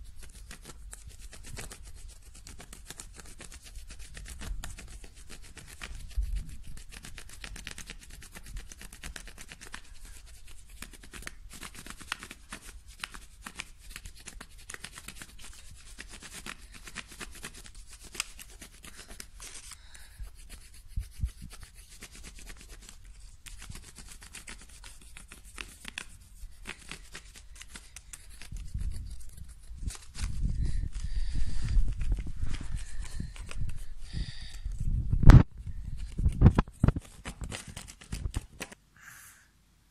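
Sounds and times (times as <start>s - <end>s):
crayon scribbling on paper: 0.0s - 34.6s.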